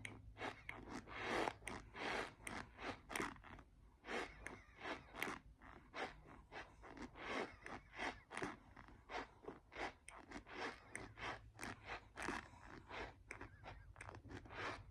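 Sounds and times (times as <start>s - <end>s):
person chewing crunchy cornstarch: 0.0s - 14.9s.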